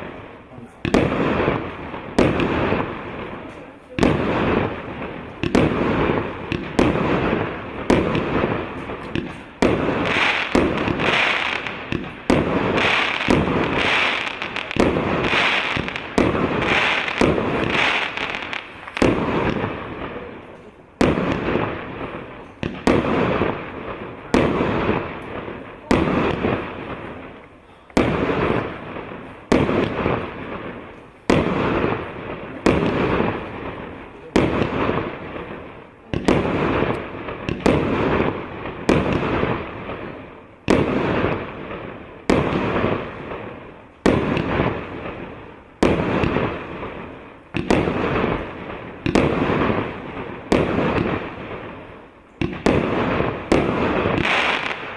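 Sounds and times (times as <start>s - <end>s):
fireworks firing: 0.0s - 54.9s.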